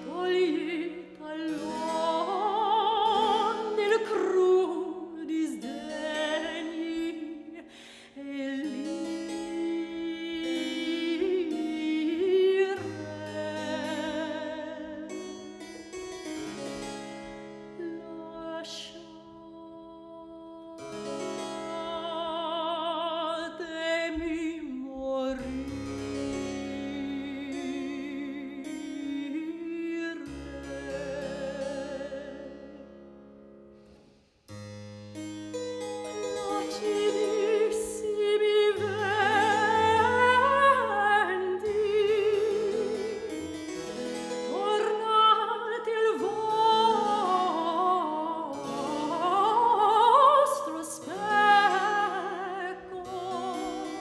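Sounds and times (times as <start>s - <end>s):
soprano singing with vibrato: 0.0s - 15.6s, 17.7s - 25.7s, 26.6s - 32.8s, 36.2s - 43.5s, 44.2s - 54.0s
harpsichord accompaniment: 0.0s - 19.4s, 20.6s - 24.2s, 25.1s - 54.0s.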